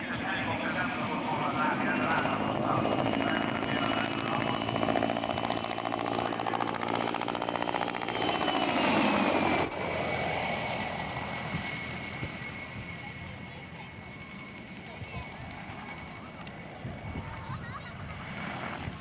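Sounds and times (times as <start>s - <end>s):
helicopter engine whine: 0.0s - 19.0s
helicopter rotor beat: 0.0s - 19.0s.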